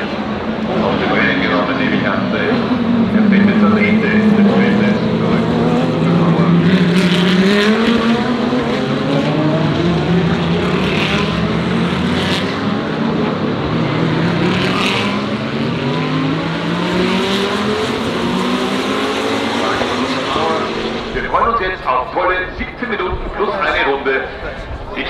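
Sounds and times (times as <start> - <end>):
race car engines in a pack: 0.0 - 25.0.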